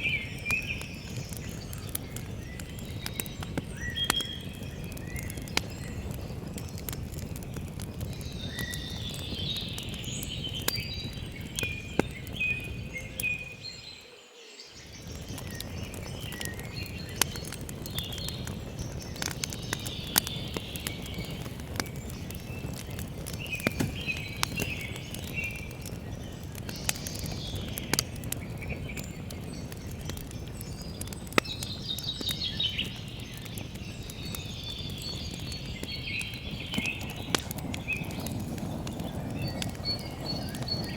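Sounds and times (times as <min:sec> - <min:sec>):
campfire crackling and popping: 0:00.0 - 0:14.0, 0:14.8 - 0:40.9
songbirds chirping: 0:00.0 - 0:40.9.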